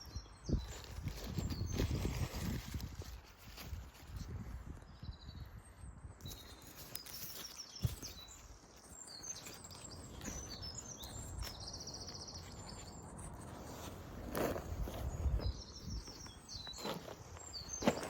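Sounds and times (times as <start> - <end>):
small birds chirping and singing: 0.0 - 18.0.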